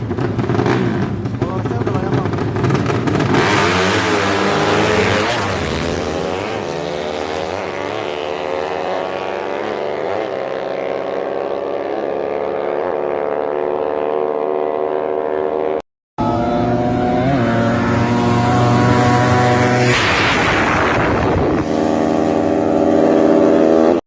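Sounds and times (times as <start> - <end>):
racing engine revving: 0.0 - 24.0.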